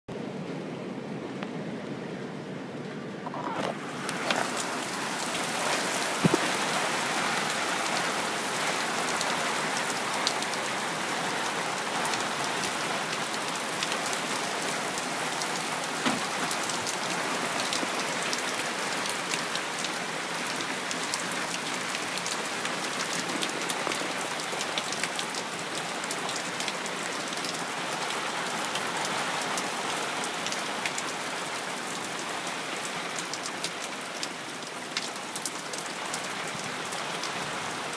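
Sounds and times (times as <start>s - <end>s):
heavy rain pouring: 1.0s - 37.9s.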